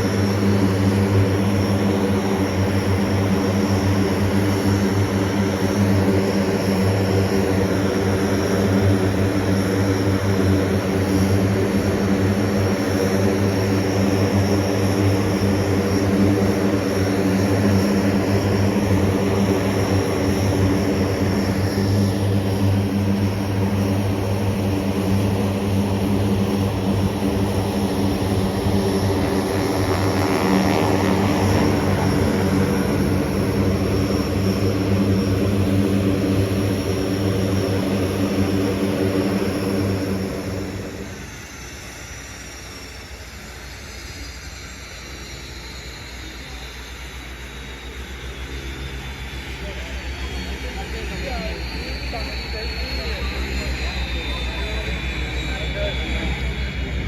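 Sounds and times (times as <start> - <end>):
propeller aircraft engine humming: 0.0 - 57.0.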